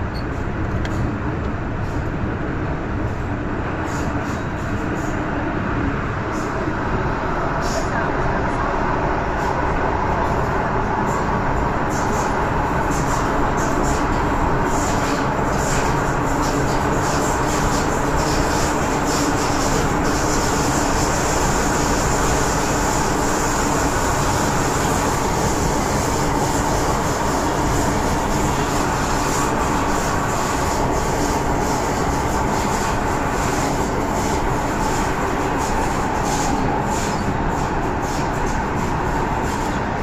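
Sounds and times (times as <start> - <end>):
train wheels rumbling: 0.0 - 40.0.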